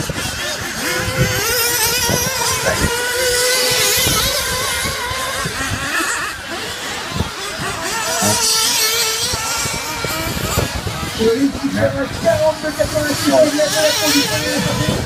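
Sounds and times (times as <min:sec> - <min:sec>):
small engines revving: 0:00.0 - 0:15.0.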